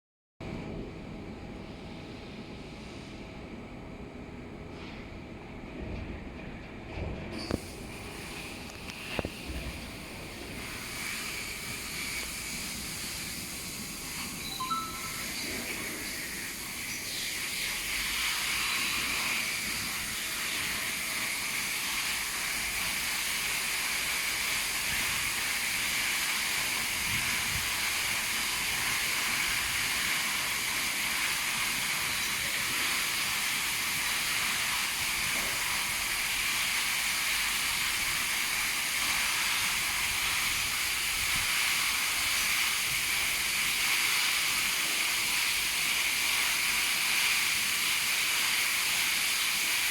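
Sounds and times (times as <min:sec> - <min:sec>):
high-pressure water jets spraying: 0:07.5 - 0:49.9.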